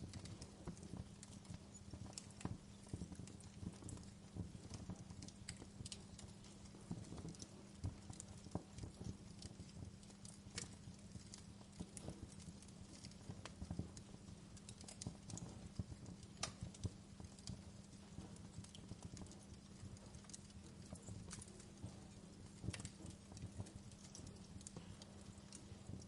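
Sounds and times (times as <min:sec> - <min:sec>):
faint low hum: 0:00.0 - 0:26.0
wood fire crackling: 0:00.0 - 0:26.0.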